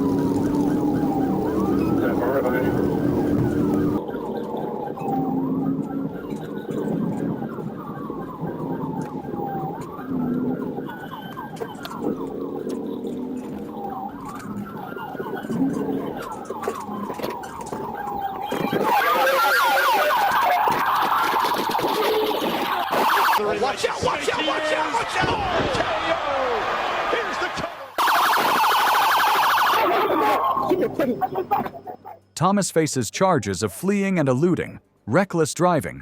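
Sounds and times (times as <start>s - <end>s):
police siren wailing: 0.0s - 26.6s, 28.0s - 32.3s.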